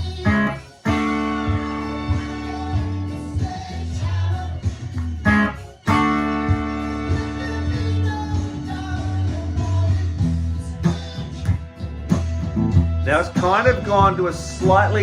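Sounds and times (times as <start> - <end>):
guitar chords: 0.0 - 4.2, 4.9 - 15.0
pulsing bass line: 0.0 - 15.0.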